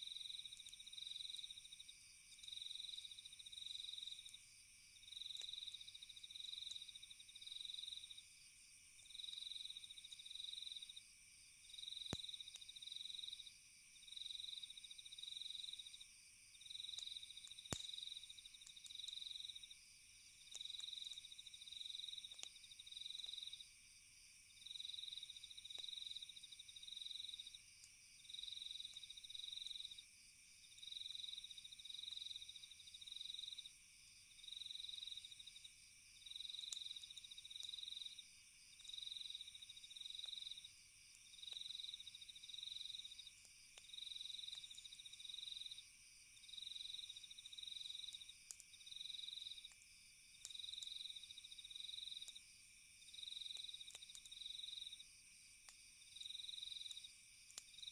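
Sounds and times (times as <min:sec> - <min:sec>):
campfire crackles: 0:00.0 - 0:57.9
cricket chirping: 0:00.0 - 0:57.9
hiss of night insects: 0:00.0 - 0:57.9.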